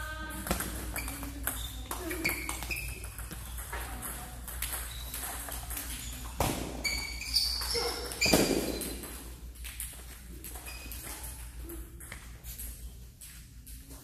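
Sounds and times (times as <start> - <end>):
table tennis balls clicking: 0.2 - 14.0.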